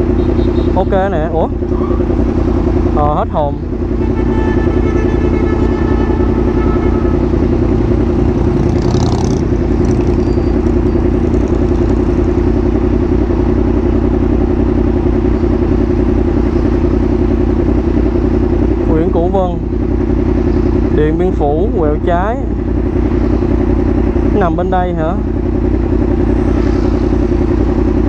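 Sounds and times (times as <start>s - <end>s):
motorcycle engine running loud: 0.0s - 28.0s.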